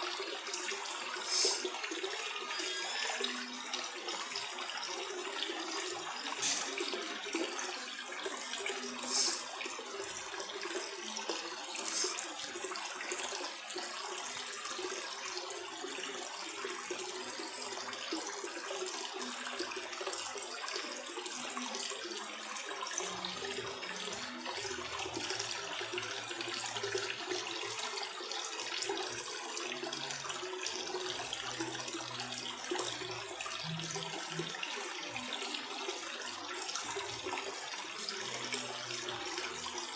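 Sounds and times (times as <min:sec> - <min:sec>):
aquarium water splashing: 0:00.0 - 0:39.9.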